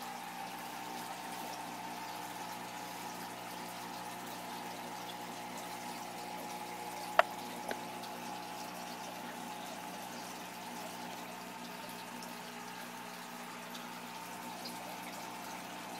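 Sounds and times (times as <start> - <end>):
aquarium aeration bubbling: 0.0 - 15.9.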